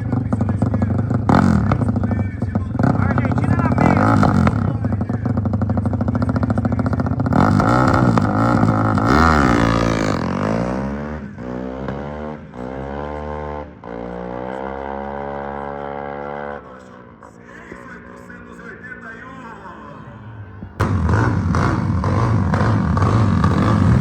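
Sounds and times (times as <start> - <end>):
motorcycle accelerating through gears: 0.0 - 17.3, 20.7 - 24.0
motorcycle engine revving: 0.0 - 24.0.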